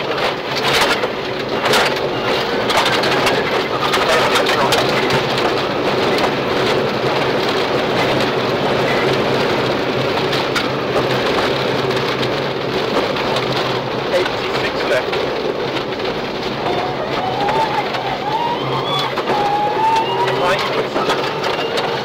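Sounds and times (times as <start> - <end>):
rally car engine: 0.0 - 22.0.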